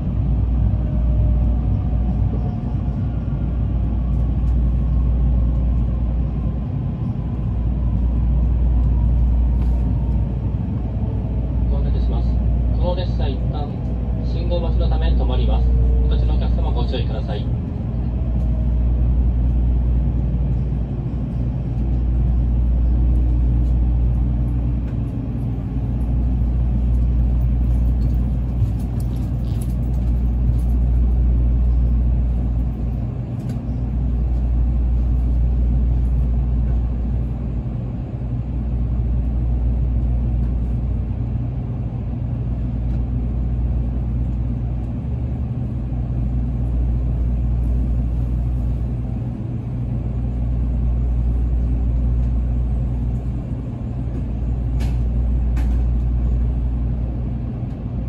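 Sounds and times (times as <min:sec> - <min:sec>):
train wheels and track rumble: 0:00.0 - 0:58.0.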